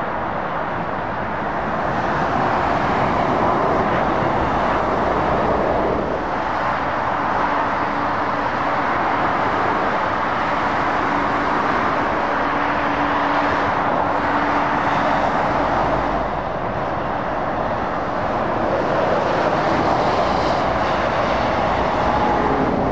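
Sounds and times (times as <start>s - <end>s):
motorway traffic rushing: 0.0s - 22.9s.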